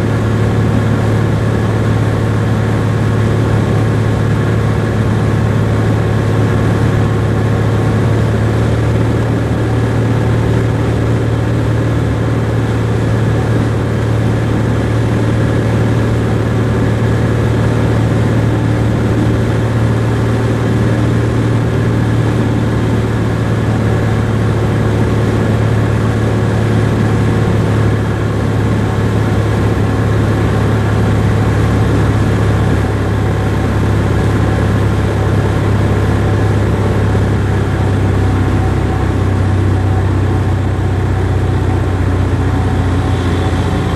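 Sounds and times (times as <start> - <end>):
aircraft engine droning: 0.0 - 43.9.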